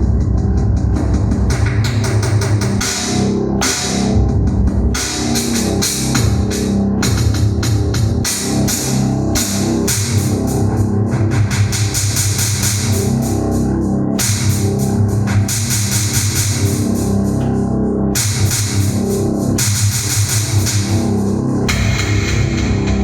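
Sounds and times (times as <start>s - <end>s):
electronic keyboard rock drum pattern: 0.0s - 23.0s
sustained bass and chord tones: 0.0s - 23.0s.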